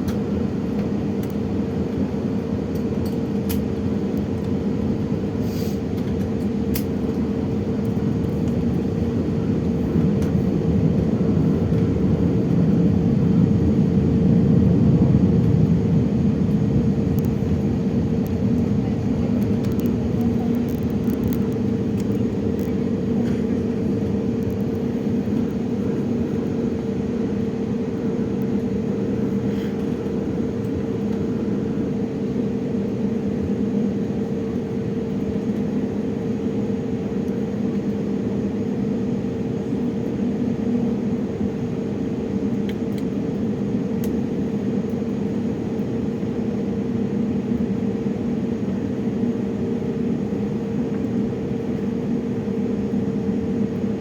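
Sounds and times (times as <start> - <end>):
distant jet engines droning: 0.0 - 54.0.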